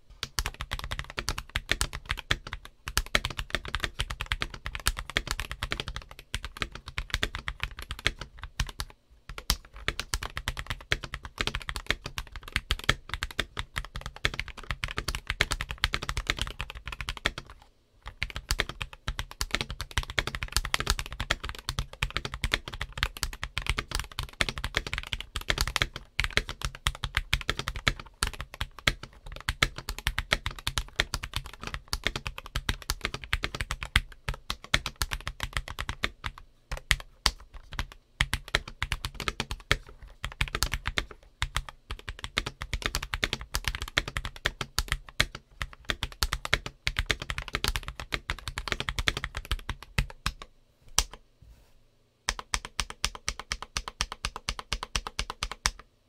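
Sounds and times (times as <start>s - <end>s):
mechanical keyboard typing: 0.2s - 51.2s, 52.3s - 55.8s.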